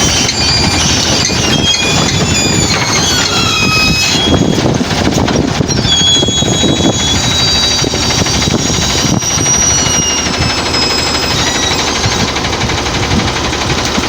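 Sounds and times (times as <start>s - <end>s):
high-pitched hydraulic whines: 0.0s - 13.6s
diesel engine rattling under load: 0.0s - 14.0s.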